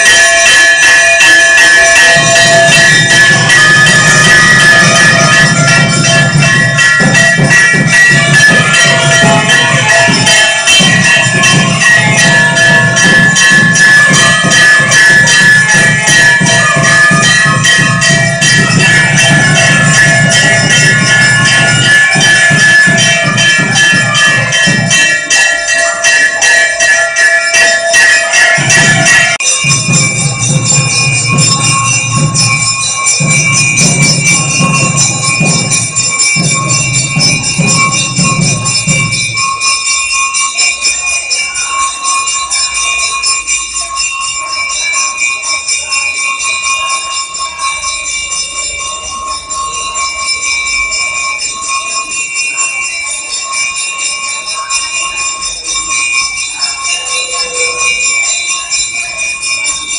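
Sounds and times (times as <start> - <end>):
bell ringing: 0.0 - 59.9.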